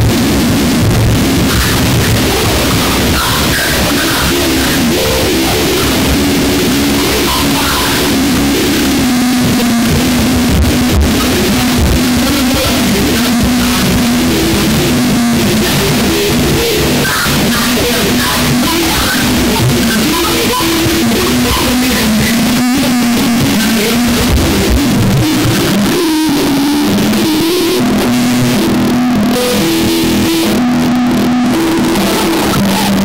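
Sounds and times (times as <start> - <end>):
low droning tone: 0.0 - 32.6
harsh distorted noise music: 0.0 - 33.0.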